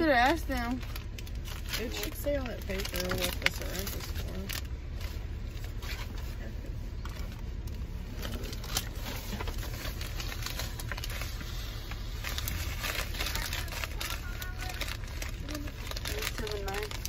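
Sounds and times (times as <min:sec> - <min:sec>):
low rumble: 0:00.2 - 0:17.0
packaging crinkling: 0:00.4 - 0:17.0.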